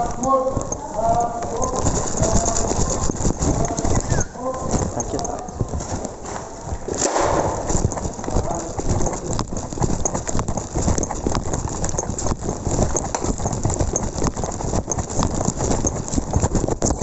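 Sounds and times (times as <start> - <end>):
footsteps on rough ground: 0.0 - 17.0
gear rustling and knocking: 0.0 - 17.0.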